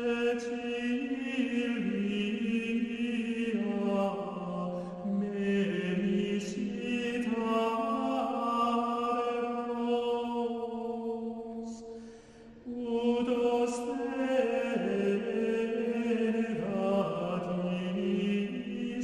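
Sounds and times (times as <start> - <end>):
slow vocal chant: 0.0 - 19.0.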